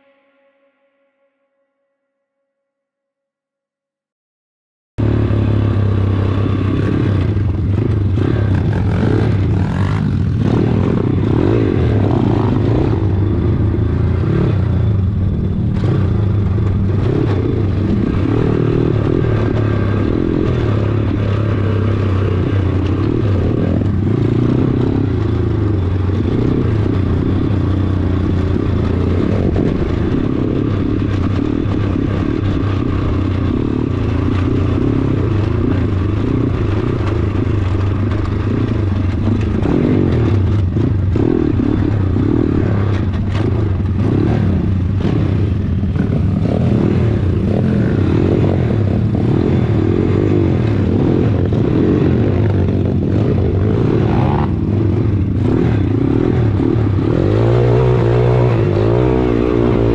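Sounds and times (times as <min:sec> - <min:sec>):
motorcycle engine running under load: 0:05.0 - 0:59.9.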